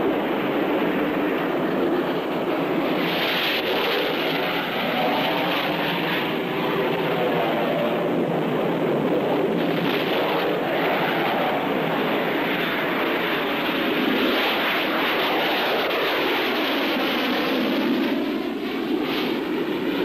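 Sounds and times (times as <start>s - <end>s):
aircraft engine rushing: 0.0s - 20.0s.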